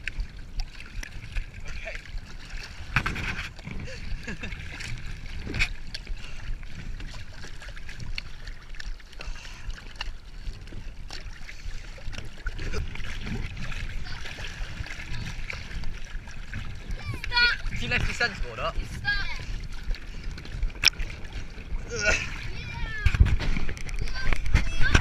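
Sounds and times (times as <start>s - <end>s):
water splashing and lapping: 0.0s - 25.0s.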